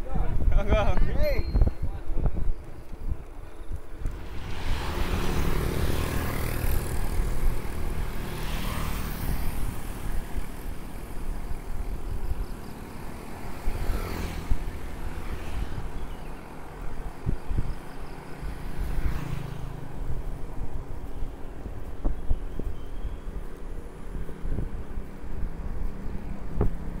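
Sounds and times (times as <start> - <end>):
bicycle tyre rumble on road: 0.0 - 27.0
wind buffeting microphone: 0.0 - 27.0.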